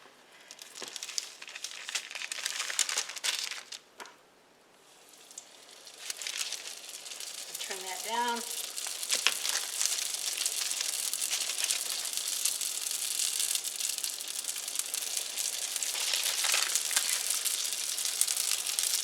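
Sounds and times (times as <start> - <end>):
dough frying in hot oil: 0.0 - 4.0, 4.8 - 19.0.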